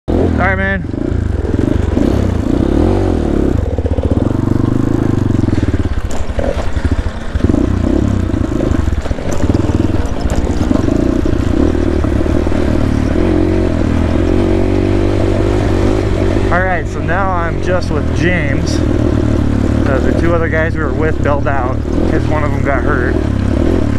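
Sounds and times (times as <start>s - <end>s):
dirt bike engine revving: 0.1s - 23.9s.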